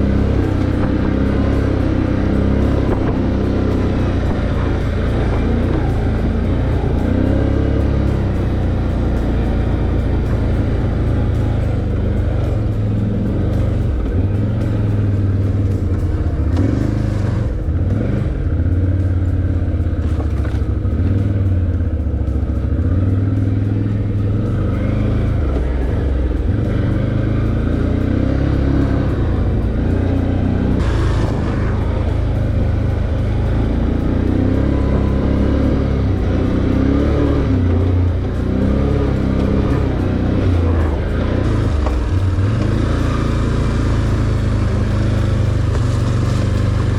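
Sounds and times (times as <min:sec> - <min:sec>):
atv engine revving: 0:00.0 - 0:46.9.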